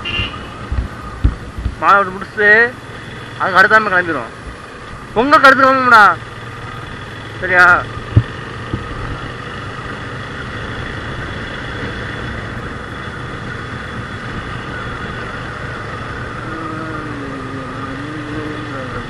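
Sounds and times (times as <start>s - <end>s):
road noise: 0.0s - 19.0s
motorcycle engine running: 0.2s - 19.0s.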